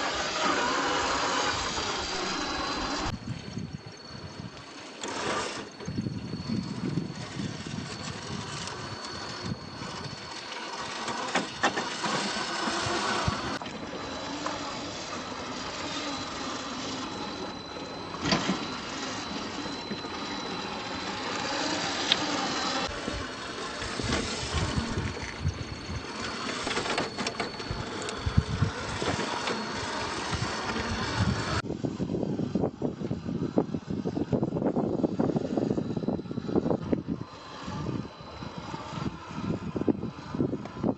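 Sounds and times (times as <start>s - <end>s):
toy car motor whining: 0.0s - 40.9s.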